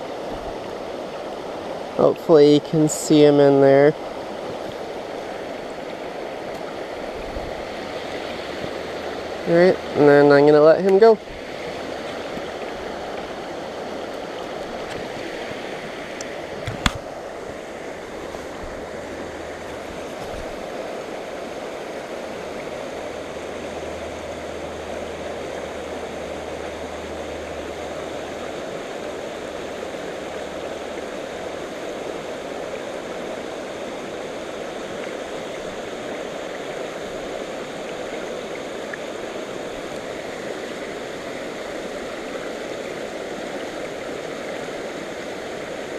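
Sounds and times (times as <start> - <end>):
water rushing over stones: 0.0 - 45.9.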